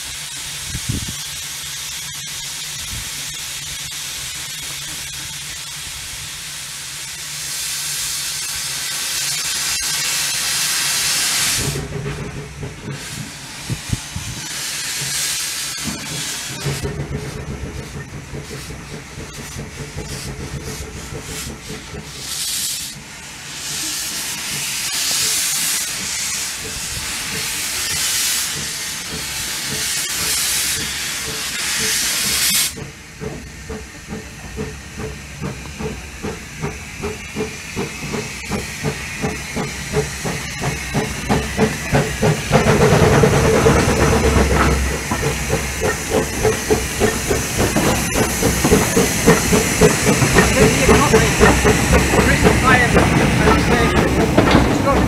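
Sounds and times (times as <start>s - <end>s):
steam hissing: 0.0s - 55.0s
steam locomotive chuffing: 0.0s - 55.0s.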